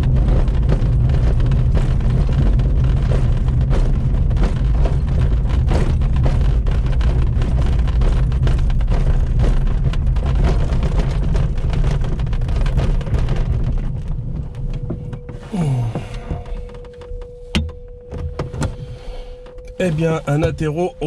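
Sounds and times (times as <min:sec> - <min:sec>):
knocks and rattles: 0:00.0 - 0:21.0
wheel rumbling over grass: 0:00.0 - 0:21.0.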